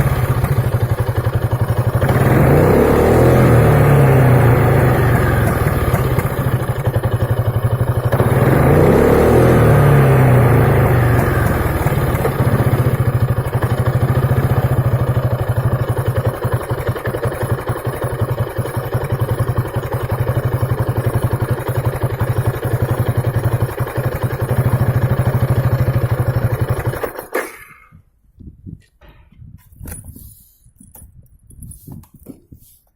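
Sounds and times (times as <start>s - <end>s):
scooter engine idling and popping: 0.0s - 32.9s.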